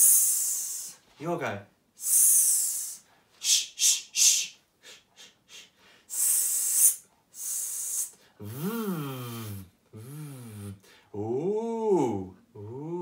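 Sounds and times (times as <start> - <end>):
man hissing vocal warm-up: 0.0 - 1.0, 2.0 - 13.0.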